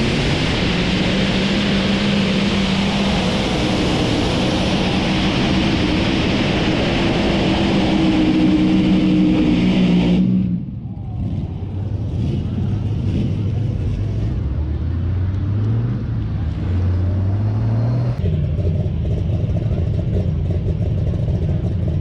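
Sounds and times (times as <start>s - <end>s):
tractor engine at full throttle: 0.0s - 22.0s.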